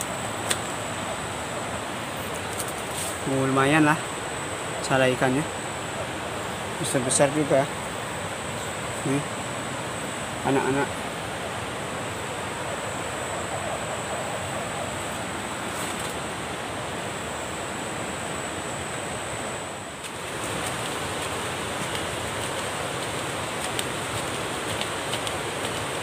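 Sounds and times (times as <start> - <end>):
thin high whine: 0.0 - 24.4
river water running: 0.0 - 26.0.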